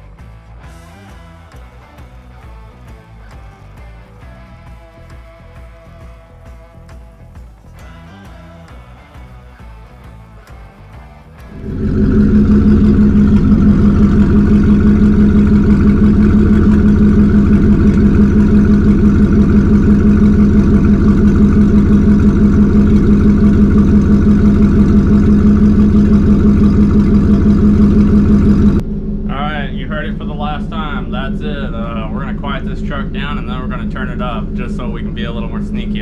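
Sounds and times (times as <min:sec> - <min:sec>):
pickup engine droning through exhaust: 0:00.0 - 0:36.0.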